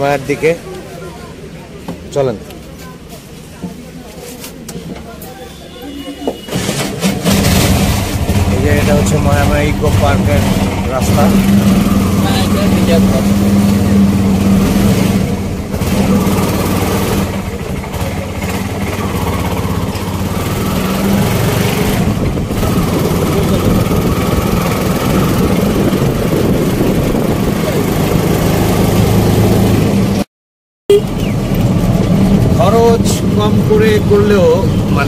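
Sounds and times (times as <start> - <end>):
auto-rickshaw engine running: 4.7 - 30.3, 30.9 - 35.0.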